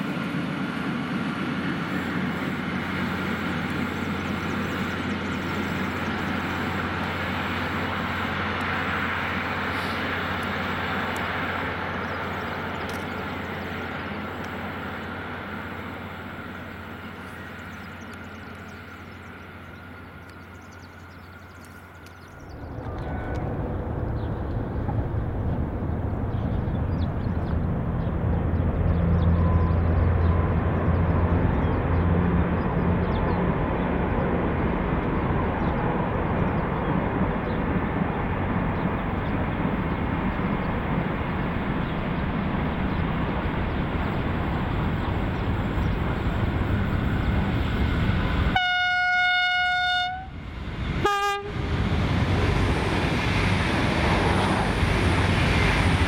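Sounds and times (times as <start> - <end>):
diesel locomotive engine running: 0.0 - 56.0
diesel railcar passing: 0.0 - 56.0.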